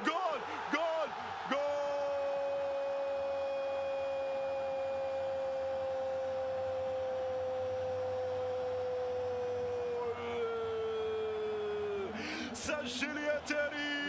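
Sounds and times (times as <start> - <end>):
stadium crowd noise: 0.0 - 14.0.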